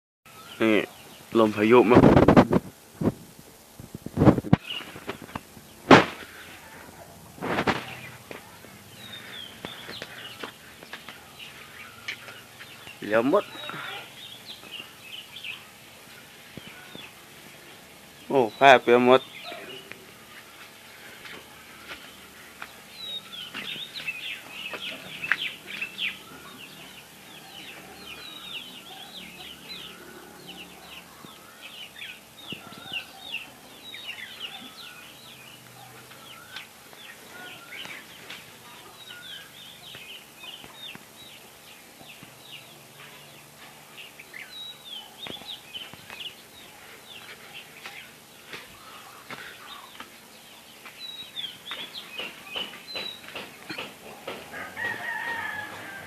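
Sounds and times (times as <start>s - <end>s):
chickens chirping and peeping: 4.2s - 56.0s.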